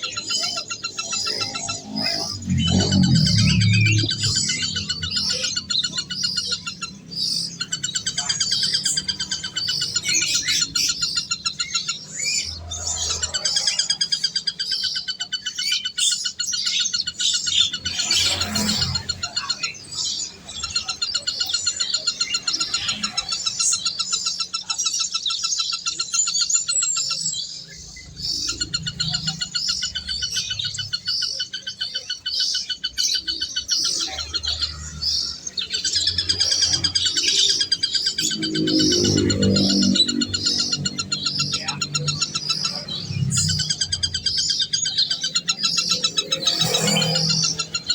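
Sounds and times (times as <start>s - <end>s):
birds chirping and twittering: 0.0s - 47.9s.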